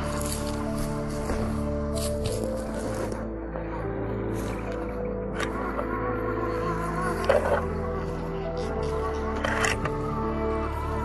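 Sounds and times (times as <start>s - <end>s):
held steady music chords: 0.0s - 11.0s.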